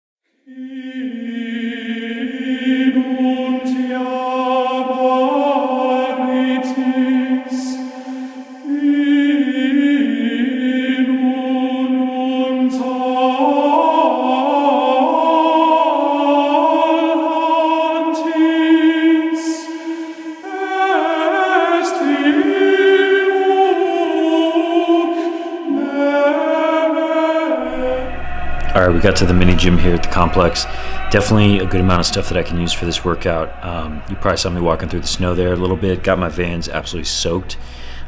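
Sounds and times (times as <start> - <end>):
men's choir chanting: 0.5 - 37.9.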